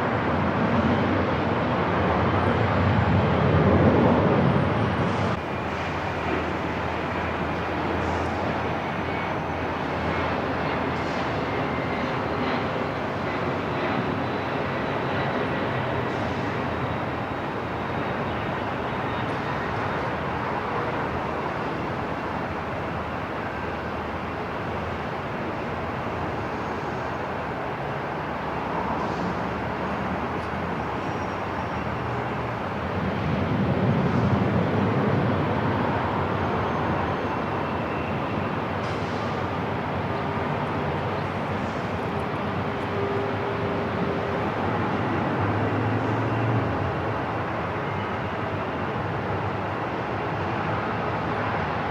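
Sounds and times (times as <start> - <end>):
airport ambience rumble and hiss: 0.0 - 51.9.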